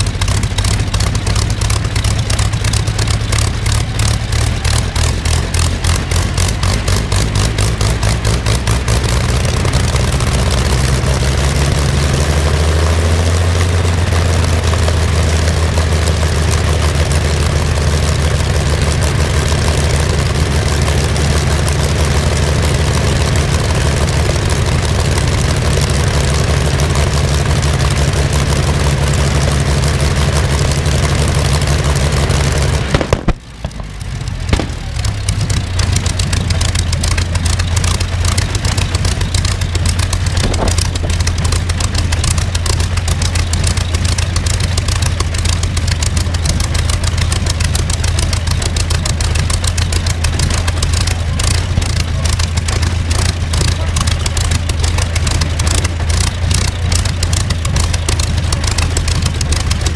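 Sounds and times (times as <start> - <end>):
aero engine drone: 0.0 - 59.9.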